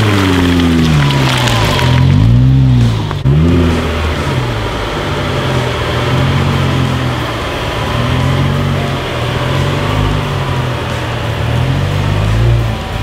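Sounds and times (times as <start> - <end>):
engine throttle blips: 0.0 - 13.0.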